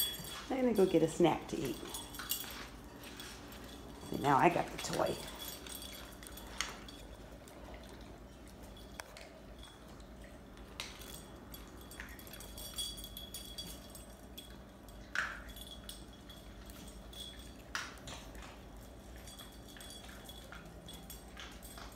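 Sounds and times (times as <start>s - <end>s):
dog claws clicking on tile: 0.0s - 21.9s.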